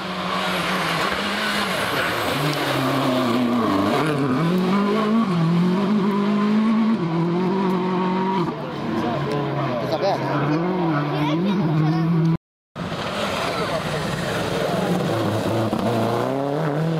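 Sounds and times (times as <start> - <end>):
rally car engine revving: 0.0 - 16.9.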